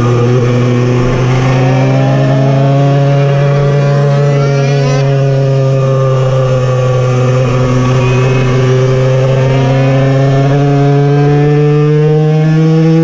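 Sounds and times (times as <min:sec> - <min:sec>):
two-stroke engine revving high: 0:00.0 - 0:13.0.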